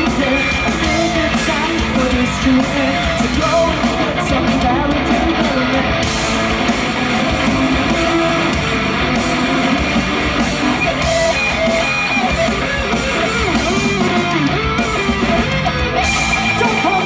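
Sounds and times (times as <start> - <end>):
drums and cymbals: 0.0 - 17.0
strummed electric guitars: 0.0 - 17.0.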